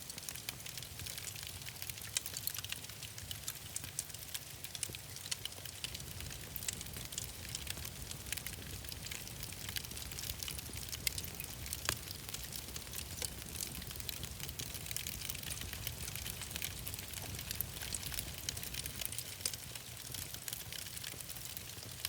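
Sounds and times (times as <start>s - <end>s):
wood fire crackling: 0.0s - 22.0s
fire pops and snaps: 0.1s - 22.0s.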